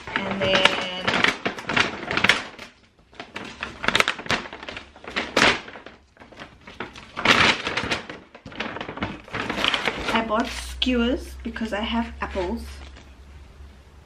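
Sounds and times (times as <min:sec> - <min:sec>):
paper bag crinkling and rustling: 0:00.0 - 0:13.7.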